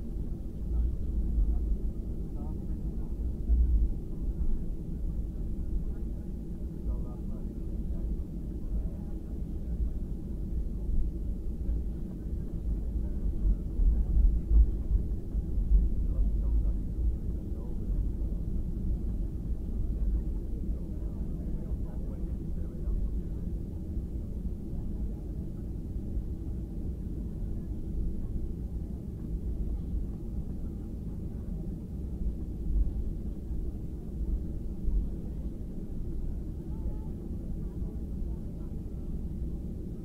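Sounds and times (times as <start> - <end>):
airplane engines idling: 0.0 - 40.0.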